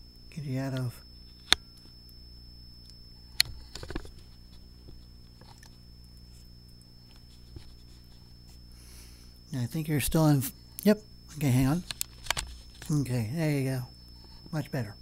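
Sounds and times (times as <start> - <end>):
faint high-pitched whine: 0.0 - 15.0
low electrical hum: 0.0 - 15.0.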